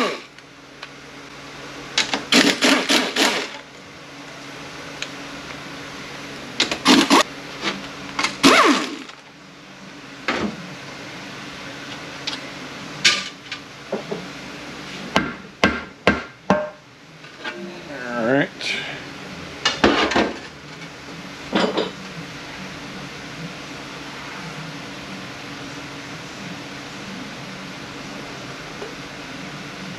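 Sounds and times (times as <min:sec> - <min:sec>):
faint shop hum: 0:00.0 - 0:29.9.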